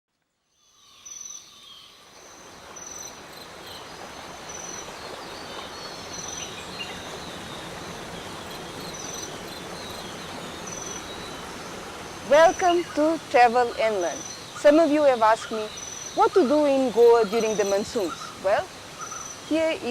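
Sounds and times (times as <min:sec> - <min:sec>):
insect chirping: 0:00.4 - 0:19.9
waterfall rushing: 0:02.0 - 0:19.9.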